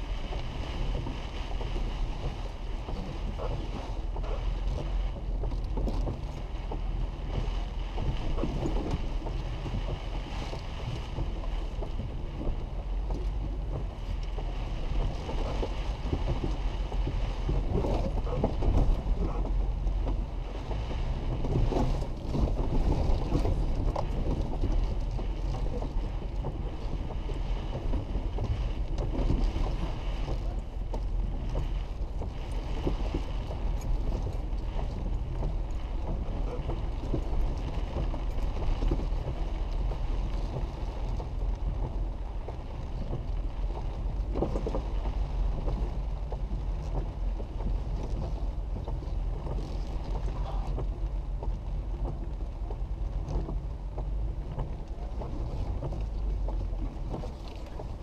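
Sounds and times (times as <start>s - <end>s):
engine and driveline rumble: 0.0s - 58.0s
rain: 0.0s - 58.0s.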